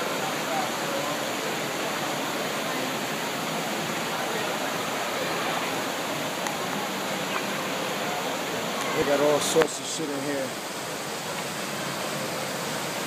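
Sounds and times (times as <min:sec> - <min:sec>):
faint voices: 0:00.0 - 0:13.0
steady rushing noise: 0:00.0 - 0:13.0.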